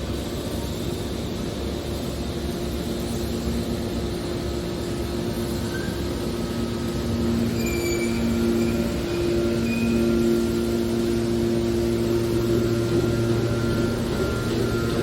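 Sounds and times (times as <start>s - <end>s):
hydraulic baler machine hum: 0.0s - 15.0s.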